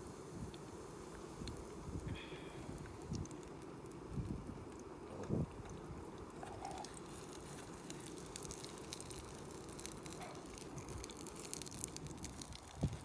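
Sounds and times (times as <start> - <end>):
sausages sizzling and crackling: 0.0 - 4.7, 5.3 - 13.0.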